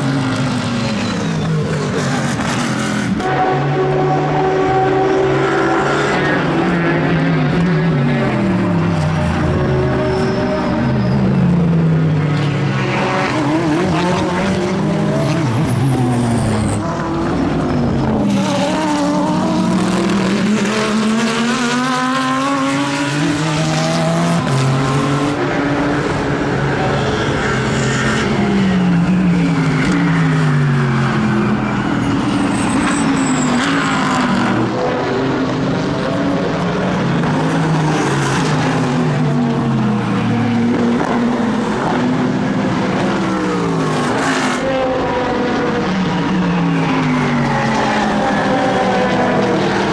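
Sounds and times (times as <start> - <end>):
race car engines passing: 0.0 - 49.9.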